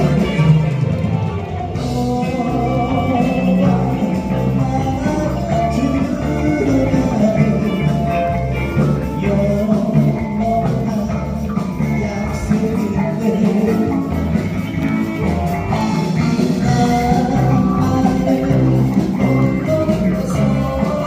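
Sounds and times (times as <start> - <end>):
electric guitar: 0.0 - 21.0
person singing: 0.0 - 21.0
rock band playing: 0.0 - 21.0.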